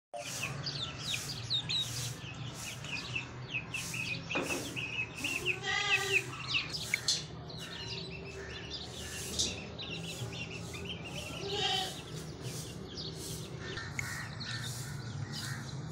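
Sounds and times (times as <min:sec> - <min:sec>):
chicks peeping: 0:00.2 - 0:15.9.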